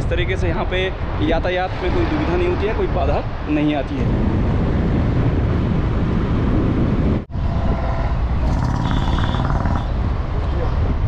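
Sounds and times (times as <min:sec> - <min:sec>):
vehicle rumbling on road: 0:00.0 - 0:11.0.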